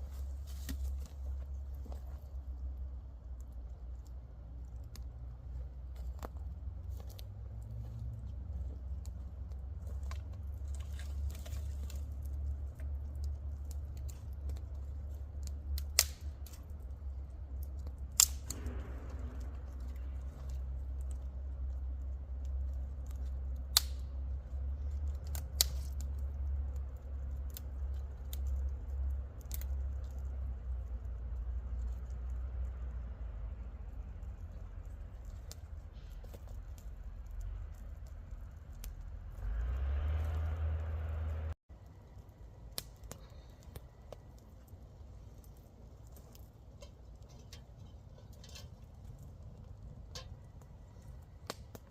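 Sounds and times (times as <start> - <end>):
campfire crackling and popping: 0.0 - 51.9
low steady rumble: 0.0 - 51.9.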